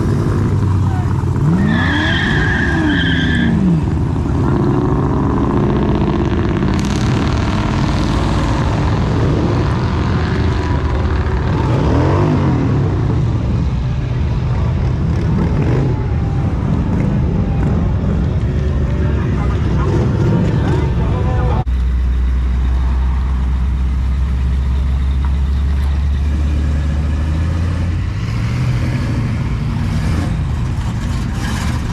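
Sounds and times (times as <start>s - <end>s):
cars driving past: 0.0s - 31.9s.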